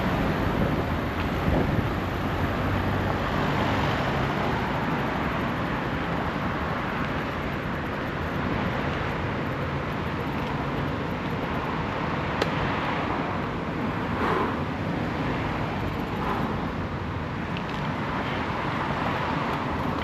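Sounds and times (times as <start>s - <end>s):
rushing street noise: 0.0s - 20.0s.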